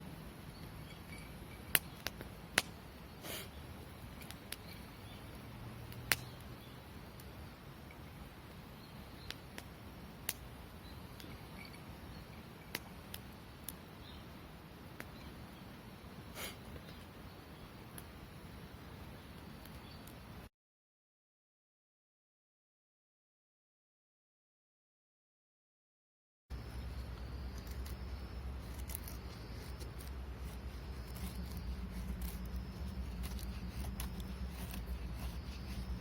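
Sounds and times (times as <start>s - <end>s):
campfire crackling: 0.0s - 20.5s, 26.5s - 36.0s.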